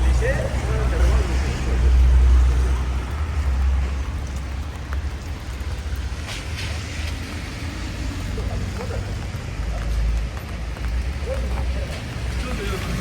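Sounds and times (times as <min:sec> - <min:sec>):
passing vehicle rumble: 0:00.0 - 0:13.0
steady rain on a street: 0:00.0 - 0:13.0.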